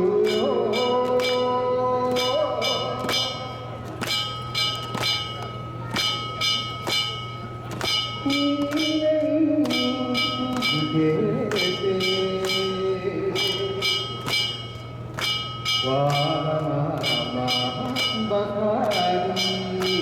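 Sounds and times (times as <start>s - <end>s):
hand gongs ringing: 0.0s - 20.0s
people's voices: 0.0s - 20.0s.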